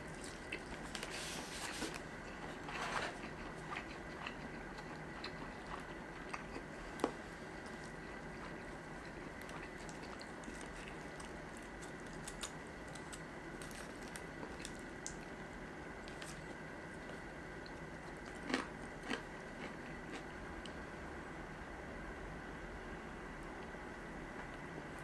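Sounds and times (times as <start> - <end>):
person chewing food: 0.0 - 15.4, 16.0 - 20.8
steady background hum: 0.0 - 25.0.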